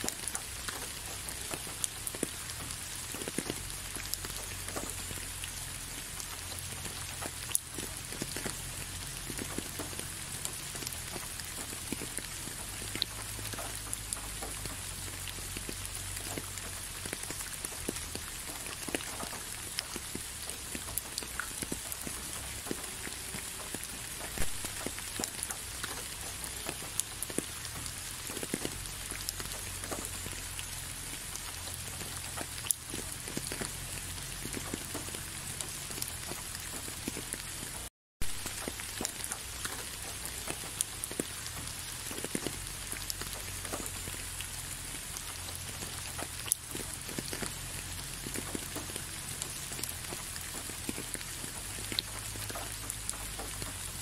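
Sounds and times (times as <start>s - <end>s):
rain falling: 0.0s - 54.0s
raindrops ticking: 0.0s - 54.0s.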